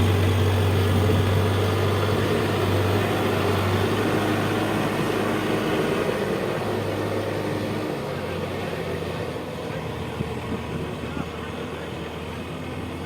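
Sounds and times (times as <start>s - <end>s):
heavy machine diesel engine humming: 0.0s - 13.0s.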